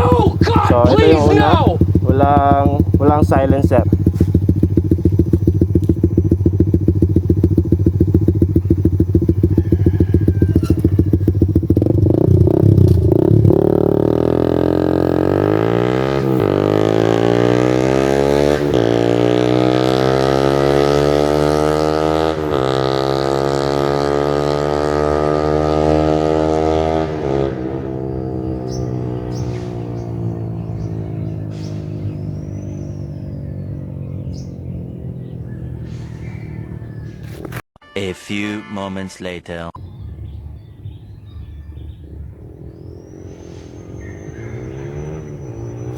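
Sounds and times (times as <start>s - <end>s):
motorcycle engine revving: 0.0s - 37.6s, 39.8s - 45.9s.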